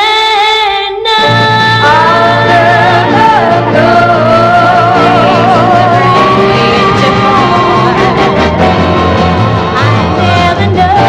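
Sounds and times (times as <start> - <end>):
women singing with vibrato: 0.0 - 8.8, 9.7 - 11.0
backing band with bass line: 1.2 - 11.0.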